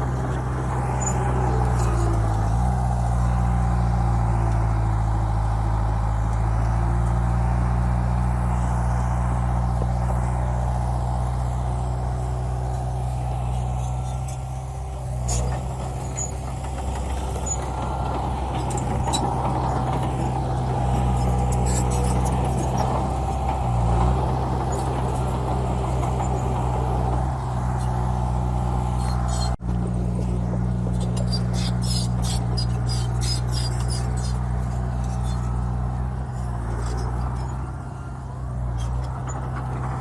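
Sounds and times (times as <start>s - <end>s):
diesel engine running under load: 0.0s - 40.0s.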